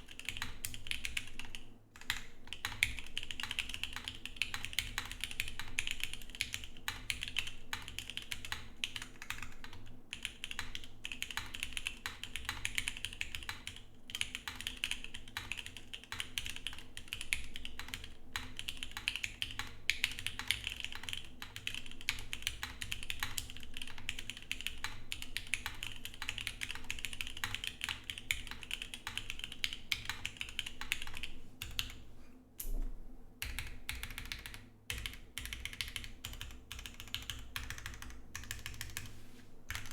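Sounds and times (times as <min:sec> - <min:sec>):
mechanical keyboard typing: 0:00.0 - 0:32.0, 0:33.4 - 0:39.1, 0:39.7 - 0:39.9.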